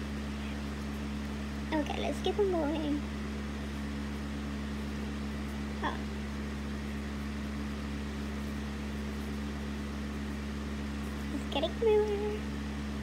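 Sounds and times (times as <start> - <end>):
low hum with fixed tones: 0.0 - 13.0.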